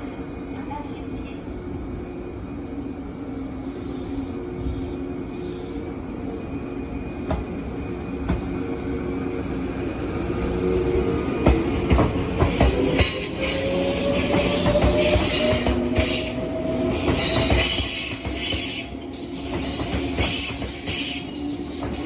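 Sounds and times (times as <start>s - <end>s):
wheels rumbling on rail: 0.0s - 22.0s.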